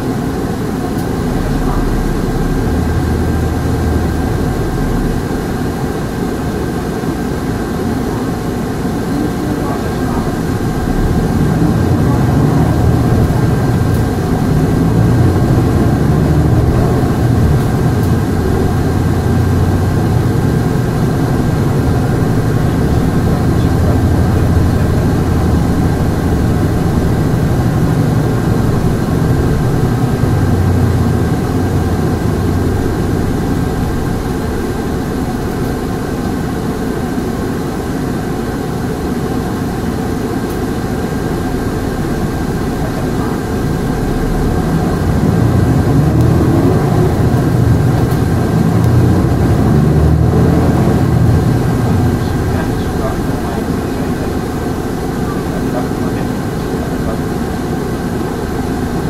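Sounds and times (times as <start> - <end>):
bus diesel engine droning: 0.0 - 59.0
thin steady whine: 0.0 - 59.0.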